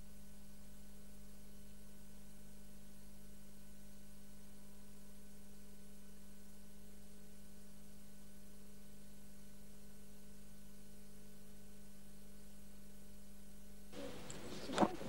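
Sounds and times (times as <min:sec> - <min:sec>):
low electrical hum with hiss: 0:00.0 - 0:15.0.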